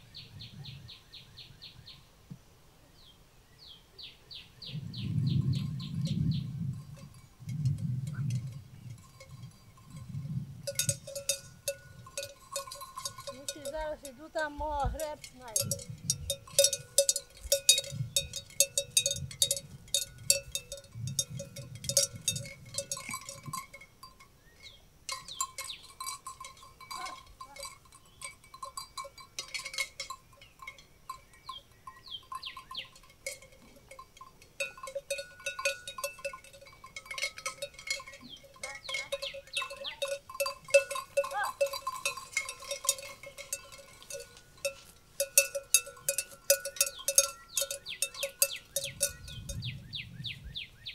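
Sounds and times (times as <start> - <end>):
livestock bells clanking: 5.3 - 50.1.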